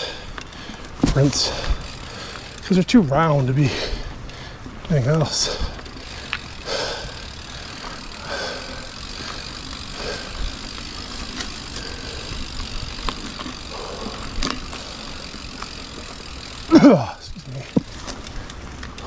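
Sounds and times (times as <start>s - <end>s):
bike clicks and rattles: 0.0s - 19.0s
bike tyres rolling on dirt: 0.0s - 19.0s.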